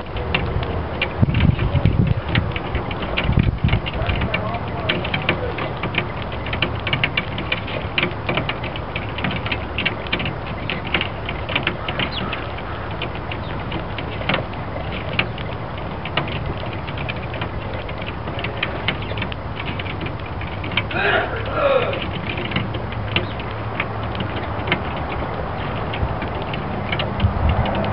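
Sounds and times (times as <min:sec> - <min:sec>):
birds pecking on glass: 0:00.0 - 0:27.9
low background rumble: 0:00.0 - 0:27.9.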